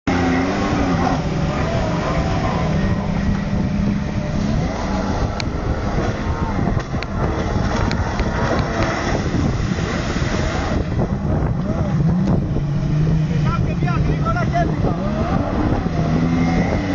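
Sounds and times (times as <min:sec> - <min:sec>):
jet ski engine running: 0:00.1 - 0:16.9
rush of wind and water: 0:00.1 - 0:16.9.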